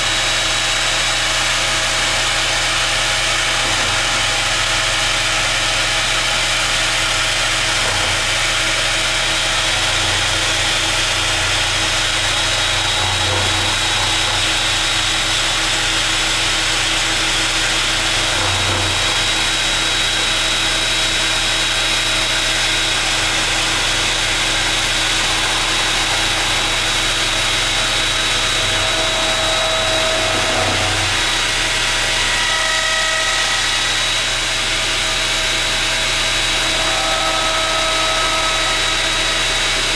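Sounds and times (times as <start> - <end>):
electric router cutting wood: 0.0 - 39.9.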